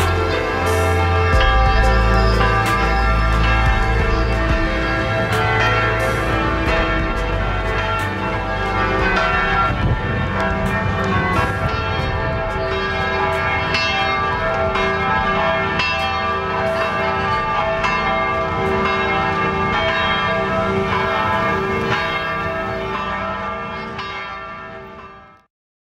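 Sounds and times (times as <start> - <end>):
church bells ringing: 0.0 - 25.5.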